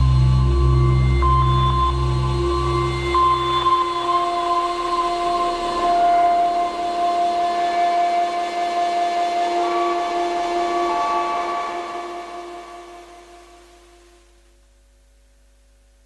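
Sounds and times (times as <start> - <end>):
held drone tones: 0.0 - 14.3.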